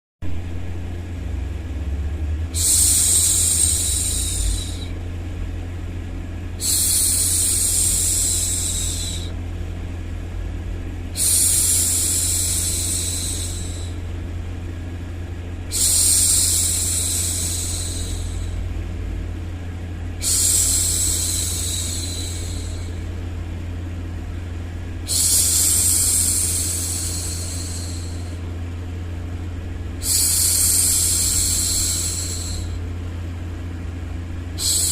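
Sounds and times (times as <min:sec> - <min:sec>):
low white noise: 0:00.2 - 0:34.9.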